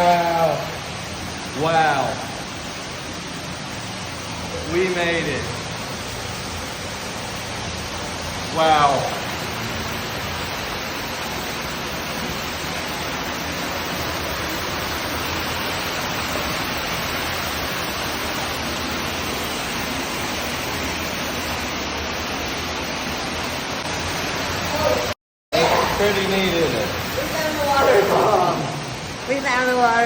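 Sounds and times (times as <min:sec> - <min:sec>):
cave waterfall roaring: 0:00.0 - 0:30.0.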